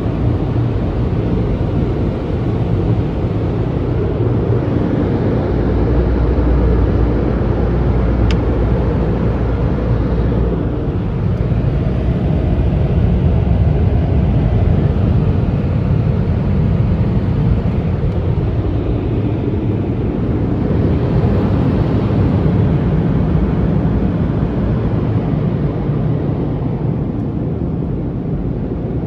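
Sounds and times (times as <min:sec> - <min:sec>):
dryer blowers rushing air: 0:00.0 - 0:29.0.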